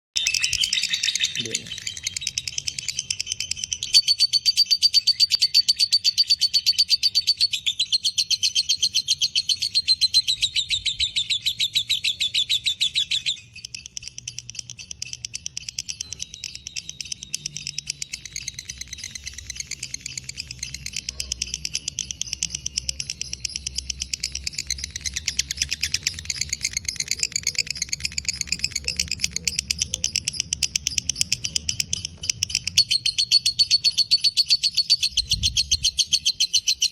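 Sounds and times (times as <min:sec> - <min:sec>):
lovebird shrill chatter: 0:00.2 - 0:36.9.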